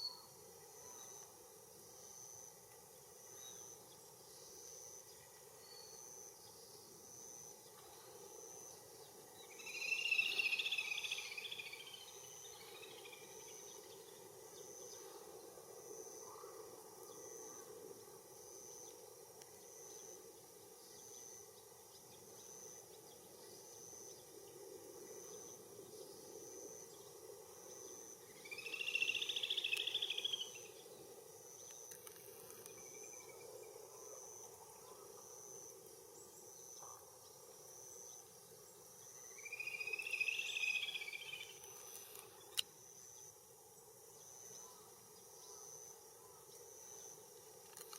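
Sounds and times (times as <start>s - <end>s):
buzzy insect calls: 0.0s - 47.9s
insect chirping: 0.0s - 47.9s.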